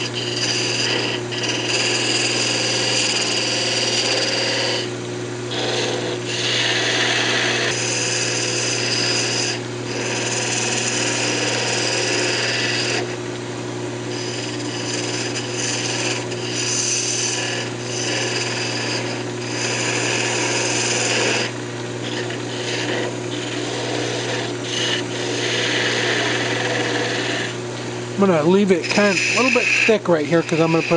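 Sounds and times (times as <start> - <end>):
lathe gouge scraping wood: 0.0 - 13.2, 14.0 - 30.9
steady low hum: 0.0 - 30.9.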